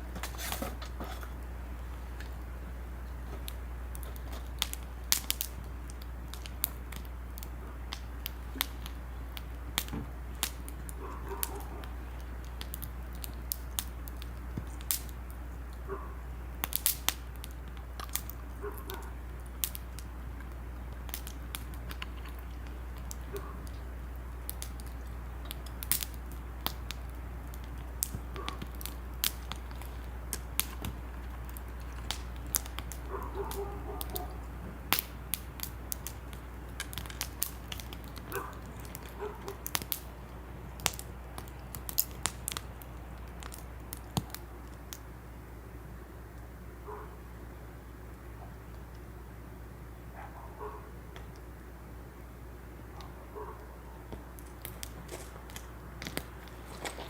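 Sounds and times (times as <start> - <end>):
firewood crackling and popping: 0.0 - 57.0
steady low hum: 0.0 - 57.0.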